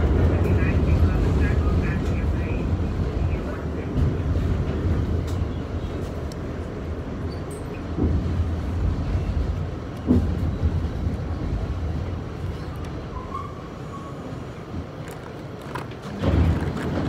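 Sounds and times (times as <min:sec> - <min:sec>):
subway car rumbling: 0:00.0 - 0:17.0.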